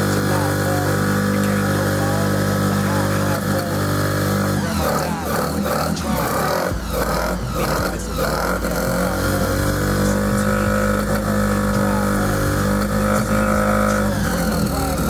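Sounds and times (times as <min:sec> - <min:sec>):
rotary engine running steadily: 0:00.0 - 0:15.0.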